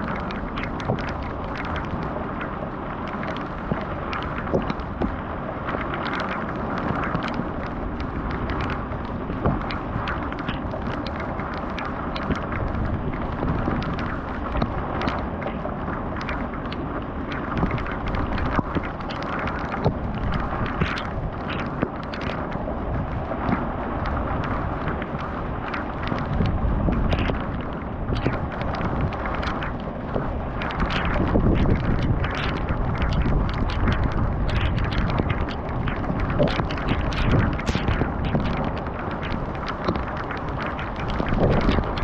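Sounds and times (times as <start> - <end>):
rain rushing: 0.0 - 42.0
wind buffeting microphone: 0.0 - 42.0.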